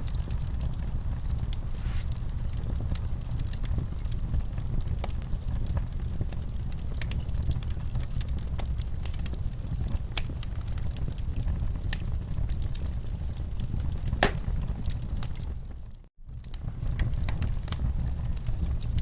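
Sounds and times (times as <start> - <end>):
low rumble of flame: 0.0 - 19.0
wood fire crackling: 0.0 - 19.0.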